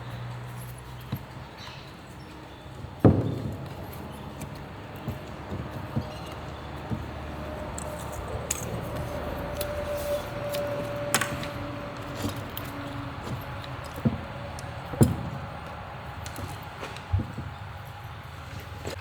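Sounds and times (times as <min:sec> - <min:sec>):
metallic clinks of tools: 0:00.1 - 0:18.2.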